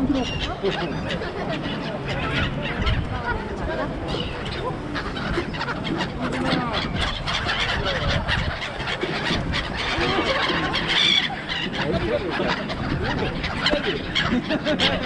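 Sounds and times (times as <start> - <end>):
people chattering: 0.0 - 15.0
seagulls squawking: 0.0 - 15.0.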